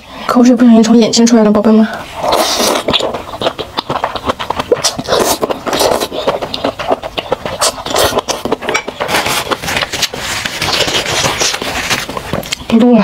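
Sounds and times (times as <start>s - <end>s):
slurping noodles: 1.9s - 12.6s
wet chewing and mouth smacking: 2.0s - 12.8s.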